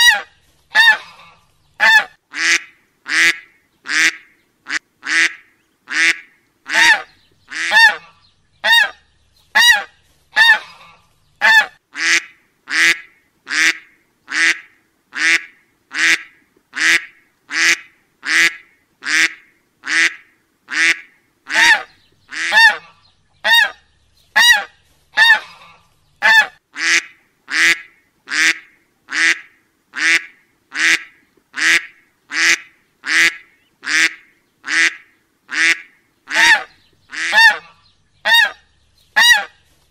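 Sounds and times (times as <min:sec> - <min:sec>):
short waterfowl calls: 0:00.0 - 0:23.8, 0:24.4 - 0:38.6, 0:39.2 - 0:39.6.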